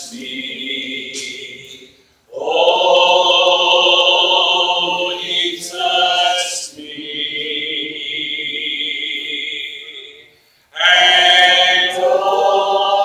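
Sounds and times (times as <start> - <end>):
voices singing with vibrato: 0.0 - 13.0.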